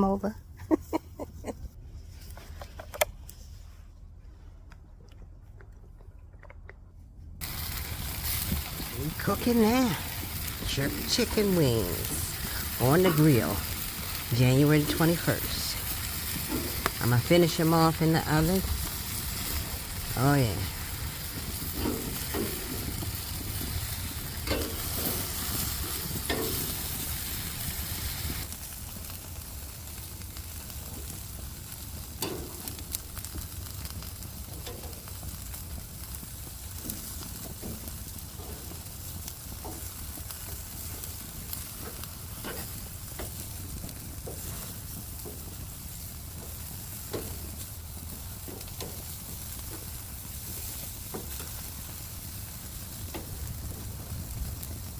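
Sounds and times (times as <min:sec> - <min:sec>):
fat popping and crackling: 0:04.6 - 0:54.9
chicken wings sizzling on a grill: 0:07.4 - 0:54.9.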